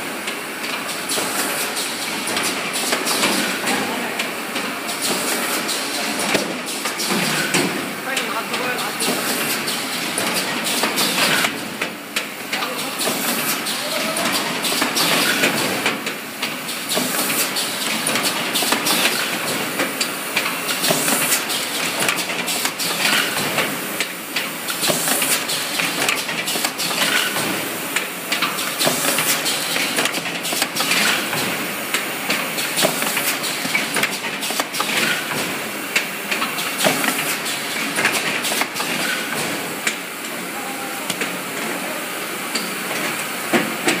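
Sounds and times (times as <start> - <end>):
machine clacks and knocks: 4.6 - 40.0, 42.6 - 44.0.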